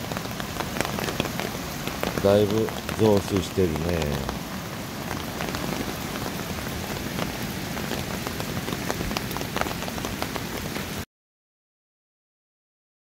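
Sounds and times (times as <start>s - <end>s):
rain falling on leaves: 0.0s - 11.1s.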